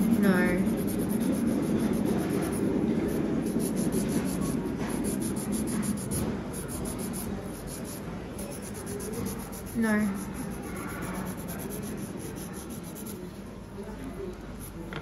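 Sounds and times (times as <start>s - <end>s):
nail file rubbing fingernails: 0.0s - 2.7s, 3.5s - 13.2s.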